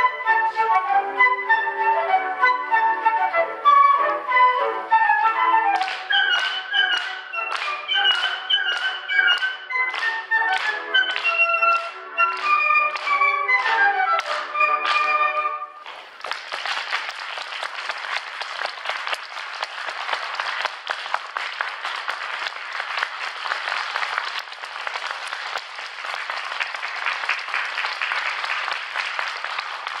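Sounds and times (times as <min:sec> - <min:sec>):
audience clapping: 0:05.3 - 0:30.0.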